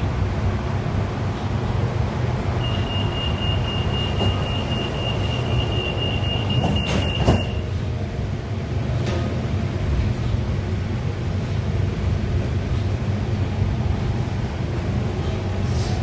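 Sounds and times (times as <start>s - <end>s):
monorail train rumbling: 0.0s - 16.0s.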